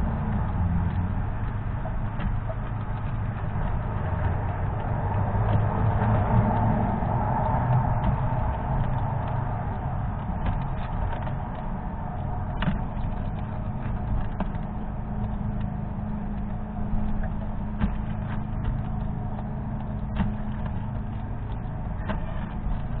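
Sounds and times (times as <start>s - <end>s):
low rumble and hum: 0.0s - 23.0s.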